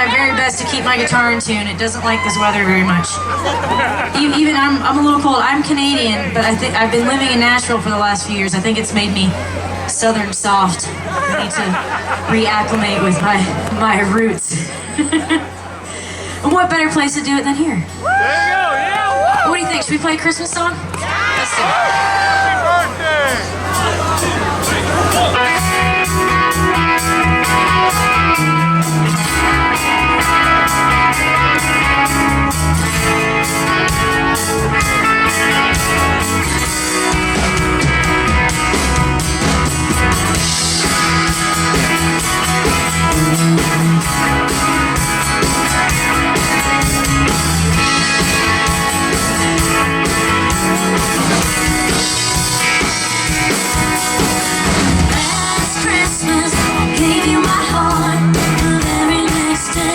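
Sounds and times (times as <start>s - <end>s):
live band playing: 0.0s - 18.5s, 19.1s - 59.9s.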